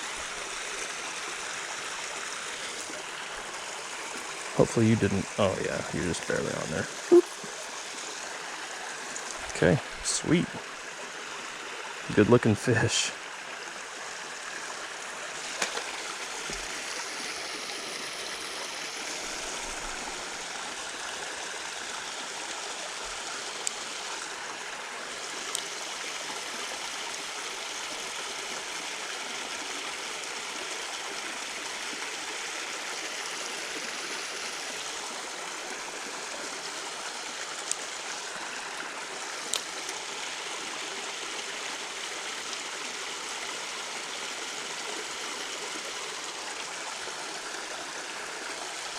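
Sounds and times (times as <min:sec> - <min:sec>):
creek water trickling: 0:00.0 - 0:48.9.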